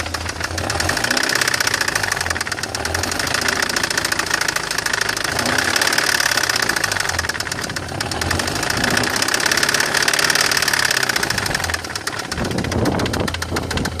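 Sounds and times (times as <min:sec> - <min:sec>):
engine running with rhythmic knock: 0:00.0 - 0:14.0.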